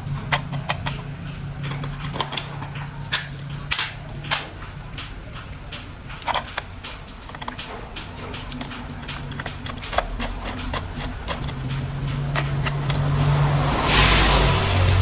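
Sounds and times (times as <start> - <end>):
plastic toy parts clicking: 0.2 - 13.1.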